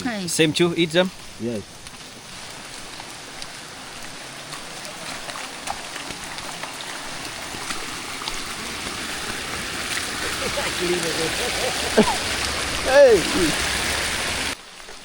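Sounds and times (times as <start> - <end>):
rain falling on foliage: 0.0 - 15.0.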